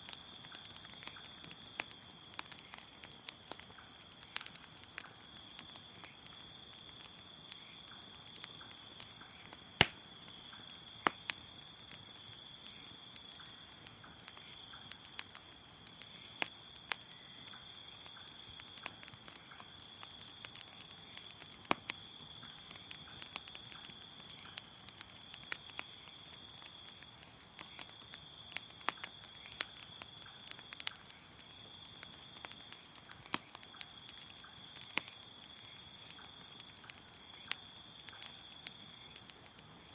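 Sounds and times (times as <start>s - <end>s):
bonfire crackling: 0.0s - 39.9s
crickets chirping: 0.0s - 39.9s.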